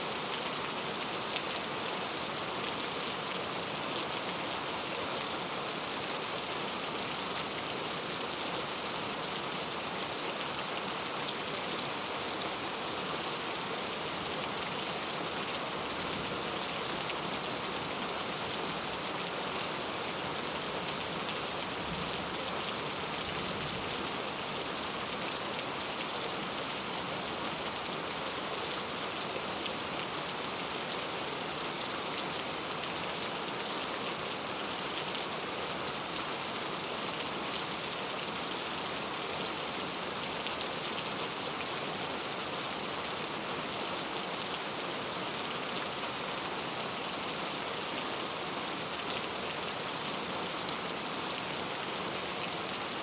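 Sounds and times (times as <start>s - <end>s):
heavy rain: 0.1s - 53.0s.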